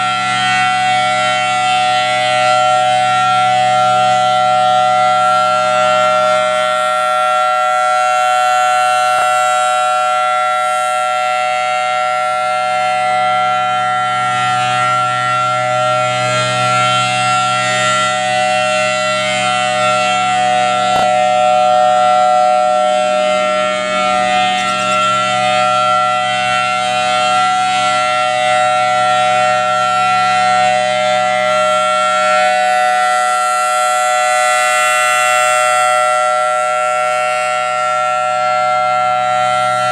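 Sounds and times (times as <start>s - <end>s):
storm siren steady tone: 0.0s - 39.9s.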